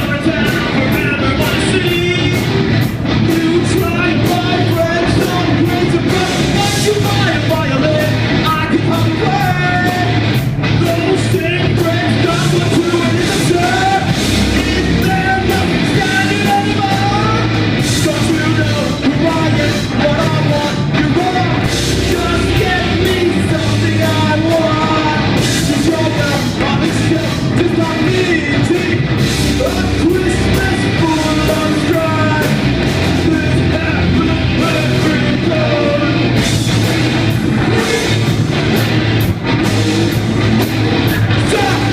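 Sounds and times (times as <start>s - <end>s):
vocalist singing: 0.0s - 38.8s, 41.0s - 41.9s
live rock band playing: 0.0s - 41.9s.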